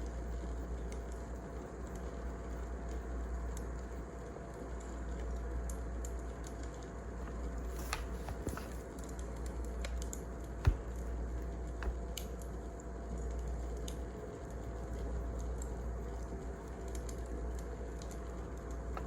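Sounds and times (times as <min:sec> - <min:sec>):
wood fire crackling: 0:00.2 - 0:19.0.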